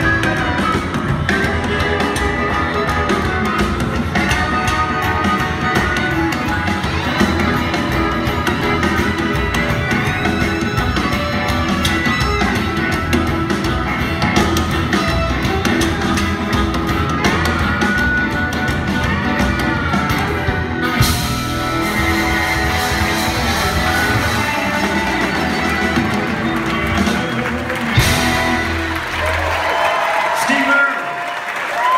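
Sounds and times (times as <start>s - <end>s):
harmonica: 0.0s - 28.9s
electric guitar: 0.0s - 30.4s
band accompaniment: 0.0s - 31.9s.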